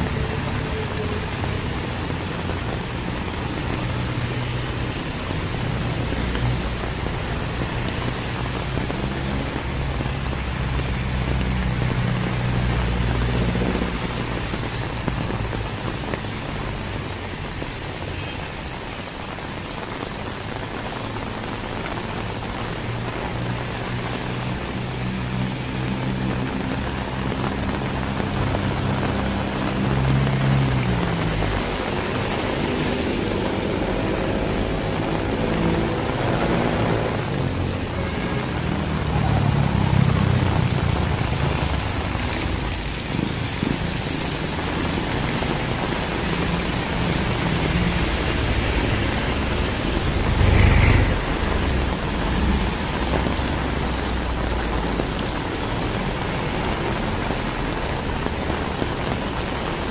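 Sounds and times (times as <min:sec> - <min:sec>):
heavy rain falling: 0:00.0 - 0:59.9
vehicles passing: 0:00.0 - 0:59.9.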